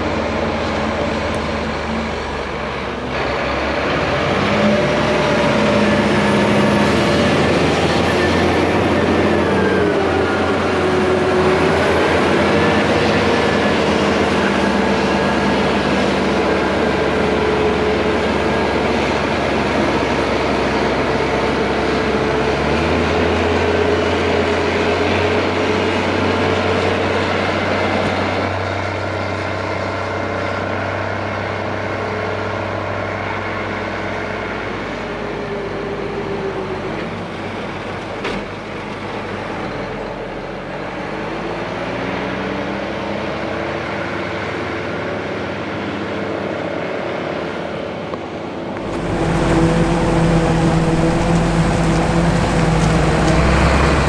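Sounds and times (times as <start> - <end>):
diesel tractor engines working: 0.0 - 54.0.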